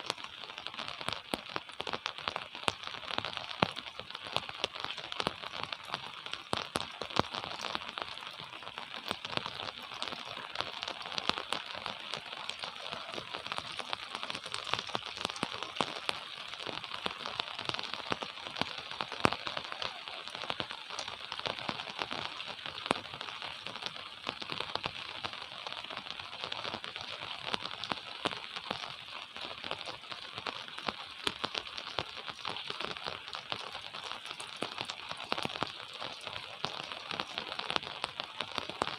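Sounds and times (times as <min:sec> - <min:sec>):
gentle rain hiss: 0:00.0 - 0:38.9
raindrops ticking on surfaces: 0:00.0 - 0:38.9.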